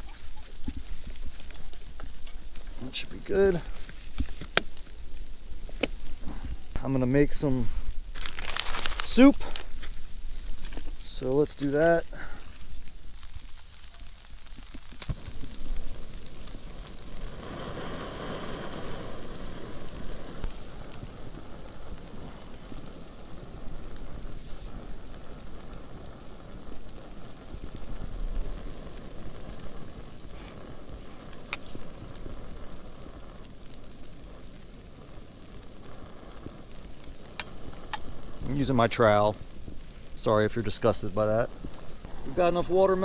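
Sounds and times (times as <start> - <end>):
camp stove hissing: 0.0 - 43.0.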